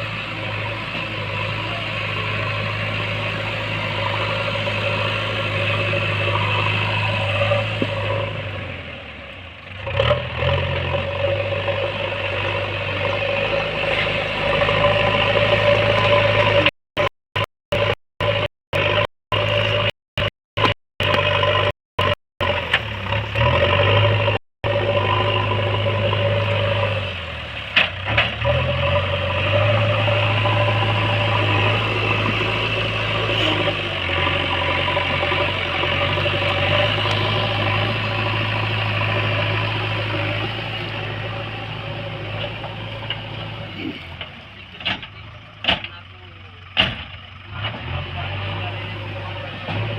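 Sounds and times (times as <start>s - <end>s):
diesel engine running: 0.0s - 49.9s
engine clatter: 0.0s - 49.9s.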